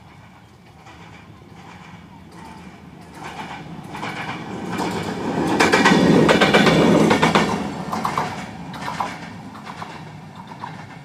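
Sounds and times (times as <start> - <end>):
diesel locomotive engine rumbling: 0.0 - 11.0
train wheels clacking over rail joints: 0.0 - 11.0.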